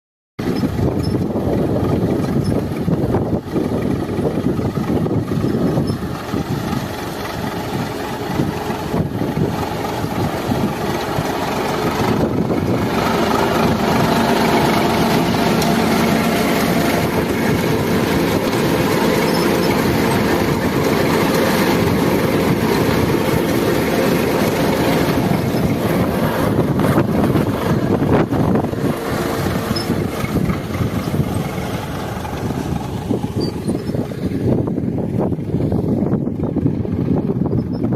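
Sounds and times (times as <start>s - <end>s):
tractor engine running: 0.4s - 37.9s.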